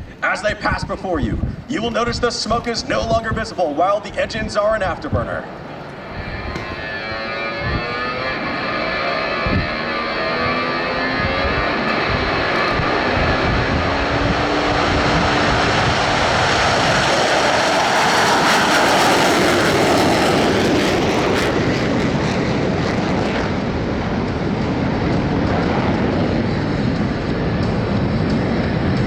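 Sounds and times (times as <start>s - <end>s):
jet roar: 0.0s - 29.0s.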